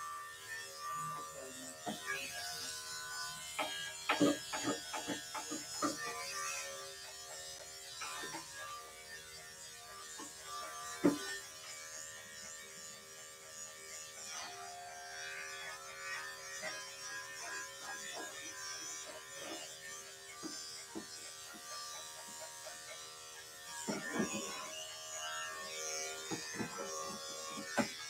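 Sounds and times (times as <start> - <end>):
electric clipper humming: 0.0 - 28.0.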